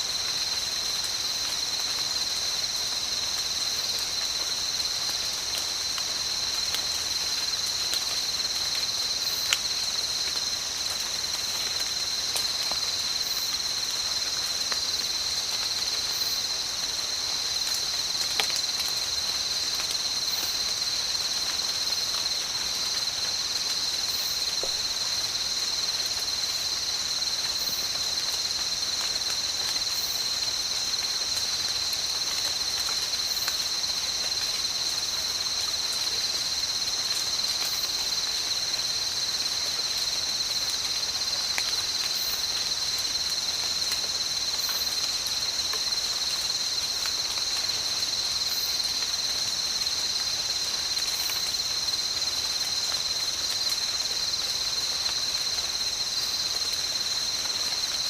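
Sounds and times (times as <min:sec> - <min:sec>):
crickets trilling: 0:00.0 - 0:58.0
light rain dripping: 0:00.0 - 0:58.0.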